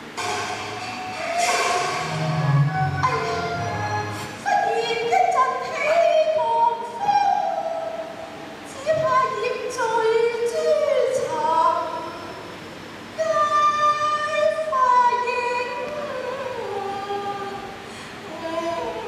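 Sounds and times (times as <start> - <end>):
woman singing opera: 2.0 - 12.4, 13.2 - 19.0.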